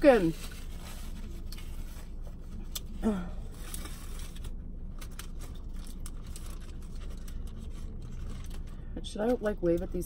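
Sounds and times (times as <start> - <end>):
low hum: 0.0 - 10.0
paper wrappers crackling: 0.0 - 10.0.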